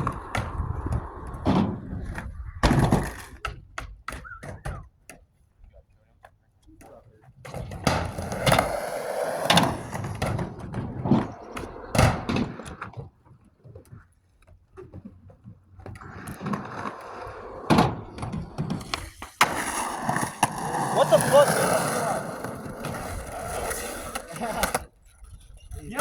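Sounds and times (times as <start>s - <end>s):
skateboard clacking and slapping: 0.0s - 5.4s, 6.2s - 25.0s
skateboard wheels rolling: 0.0s - 26.0s.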